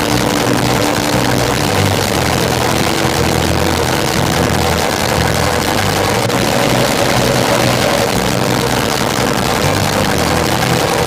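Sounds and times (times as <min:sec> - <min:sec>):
race car engine running: 0:00.0 - 0:11.0.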